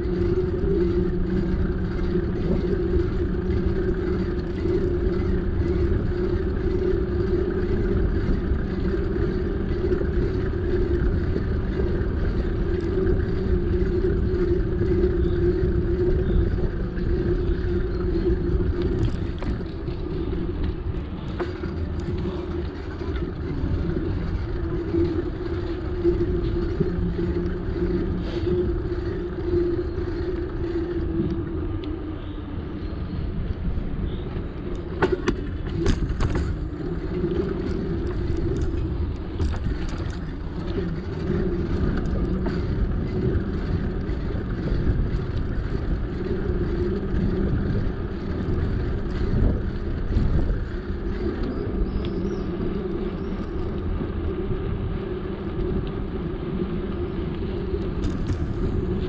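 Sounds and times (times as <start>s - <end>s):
bicycle tyres on road: 0.0s - 59.0s
steady hum: 0.0s - 59.0s.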